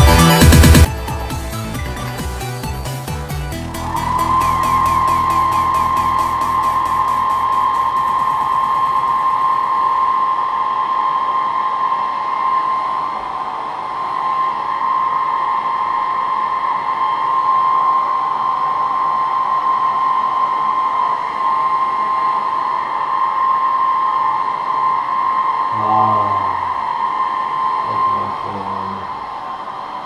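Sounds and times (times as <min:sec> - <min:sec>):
low hum: 0:03.5 - 0:30.0.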